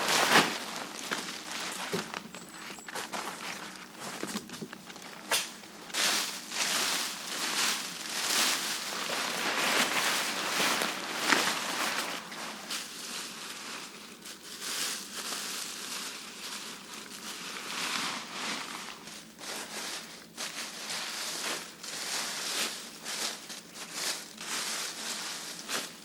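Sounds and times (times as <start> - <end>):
rustling and crunching: 0.0 - 26.0.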